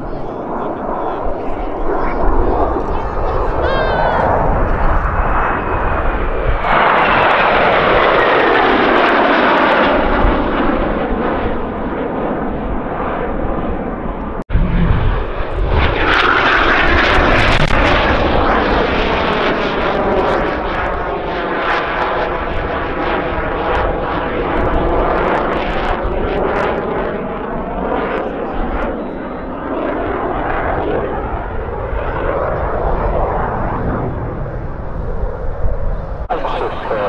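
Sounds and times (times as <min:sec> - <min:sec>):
jet flying overhead: 0:00.0 - 0:37.0.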